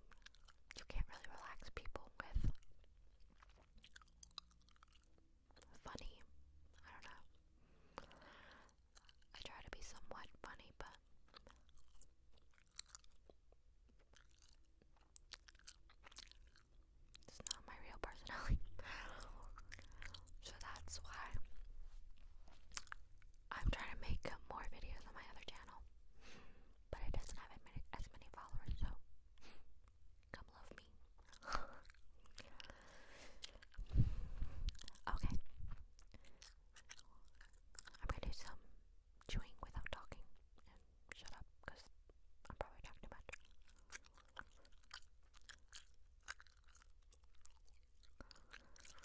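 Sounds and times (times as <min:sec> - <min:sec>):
gum chewing clicks and smacks: 0:00.0 - 0:24.4, 0:27.1 - 0:38.6, 0:39.2 - 0:49.0.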